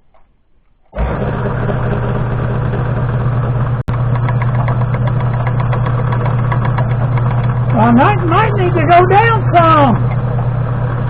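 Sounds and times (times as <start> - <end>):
milling machine motor humming: 0.9 - 11.0.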